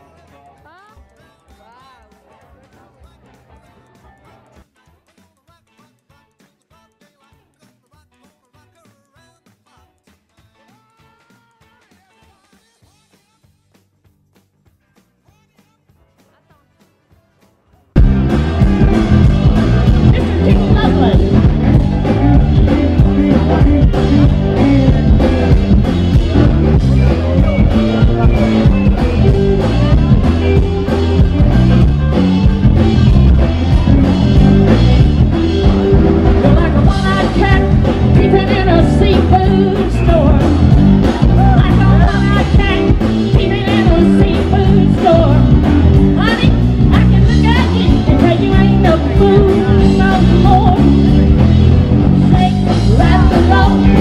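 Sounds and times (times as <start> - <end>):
rock and roll music with guitar: 0.0 - 54.0.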